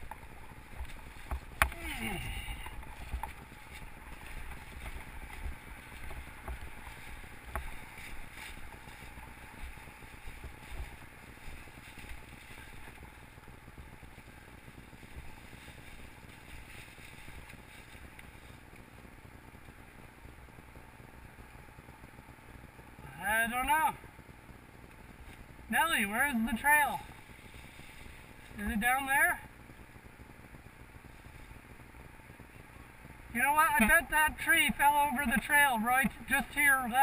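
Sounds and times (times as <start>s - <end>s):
bike rumbling over forest trail: 0.0s - 37.0s.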